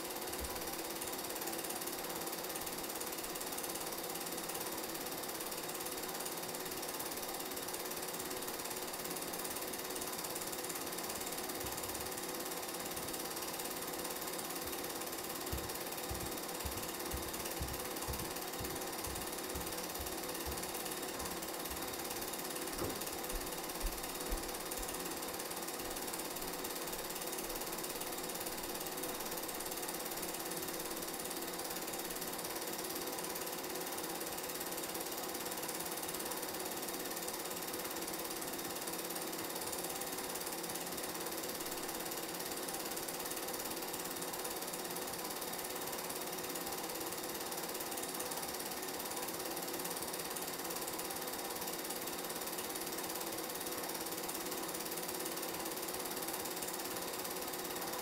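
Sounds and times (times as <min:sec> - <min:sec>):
film projector clattering: 0:00.0 - 0:58.0.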